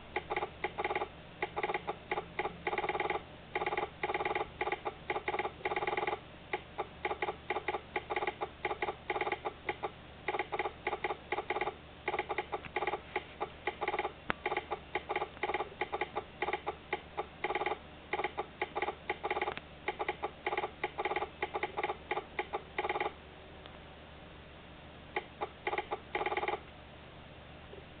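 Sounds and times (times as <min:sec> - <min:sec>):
buzzing tone in morse-like pulses: 0:00.0 - 0:23.2, 0:25.1 - 0:26.7.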